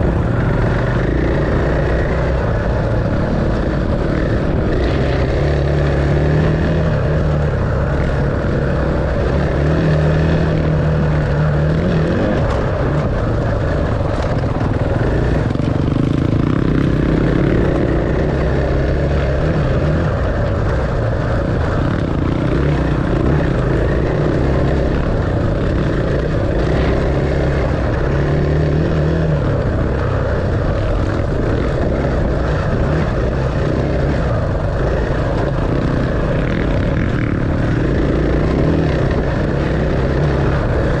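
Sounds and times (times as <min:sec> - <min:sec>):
dirt bike engine running: 0:00.0 - 0:41.0.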